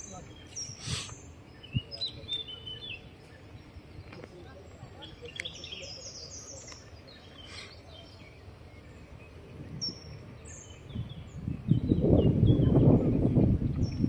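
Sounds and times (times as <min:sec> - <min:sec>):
wind buffeting microphone: 0:00.0 - 0:05.9, 0:07.8 - 0:14.0
small birds chirping: 0:00.0 - 0:14.0.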